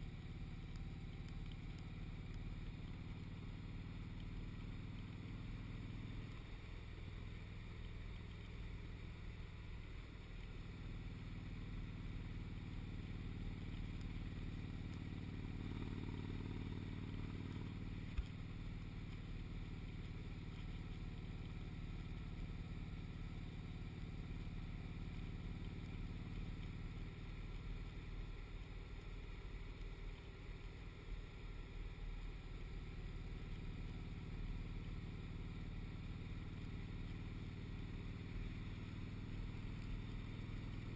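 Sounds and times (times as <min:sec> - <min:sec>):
motorcycle engine cruising: 0:00.0 - 0:40.9
road and wind noise: 0:00.0 - 0:40.9.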